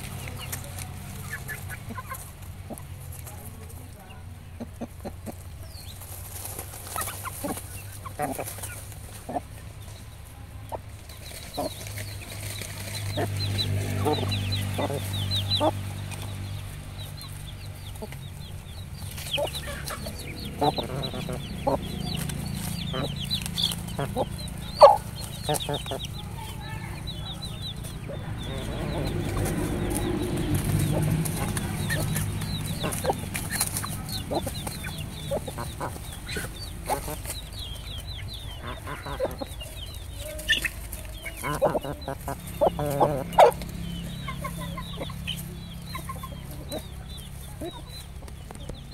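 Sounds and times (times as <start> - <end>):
chicks peeping: 0.0 - 48.9
hens clucking: 0.0 - 48.9
pecking in dry leaves: 0.0 - 48.9.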